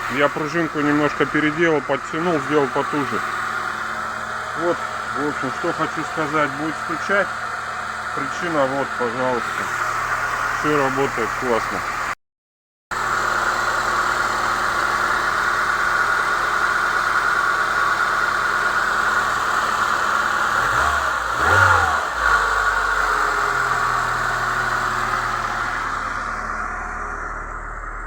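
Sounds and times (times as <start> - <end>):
car engine idling: 0.0 - 12.1, 13.0 - 28.0.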